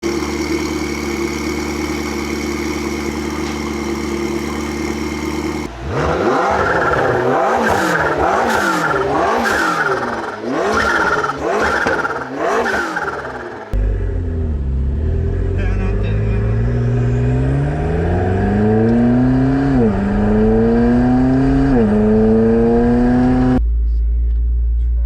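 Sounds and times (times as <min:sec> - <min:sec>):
sports car engine revving: 0:00.0 - 0:23.6.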